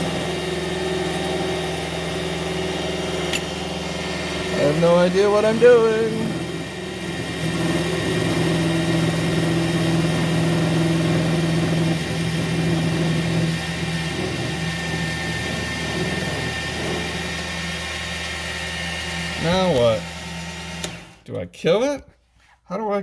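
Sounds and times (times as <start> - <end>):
steady droning tone: 0.0 - 18.5
metal lathe running: 0.0 - 21.2.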